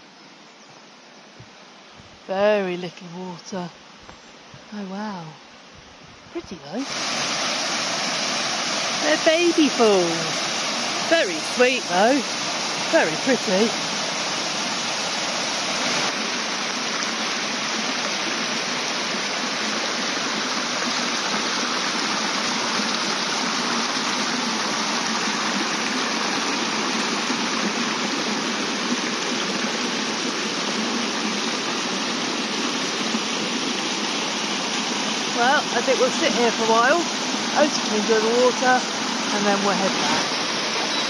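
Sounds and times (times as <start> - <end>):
stream riffling over stones: 6.5 - 41.0
small waterfall over rocks: 6.7 - 41.0.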